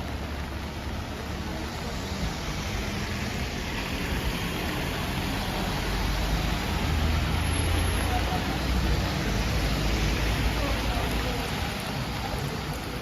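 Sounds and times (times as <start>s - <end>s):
rain hissing: 0.0s - 13.0s
wet traffic on street: 0.0s - 13.0s.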